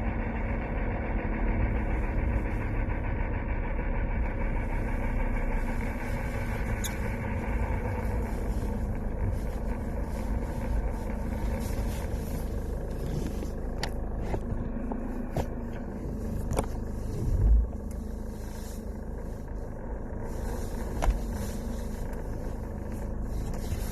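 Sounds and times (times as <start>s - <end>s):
car engine and road noise: 0.0s - 23.9s.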